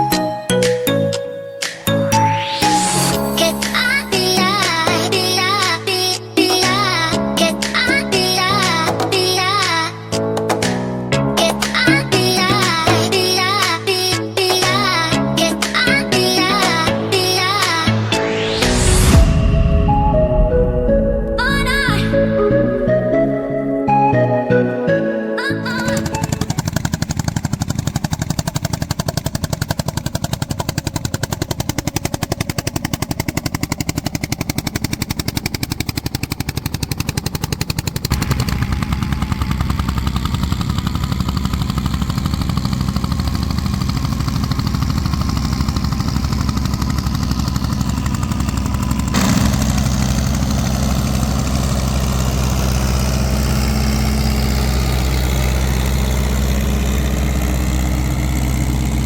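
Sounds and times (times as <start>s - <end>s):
tractor engine running: 0.0s - 20.1s, 25.7s - 59.0s.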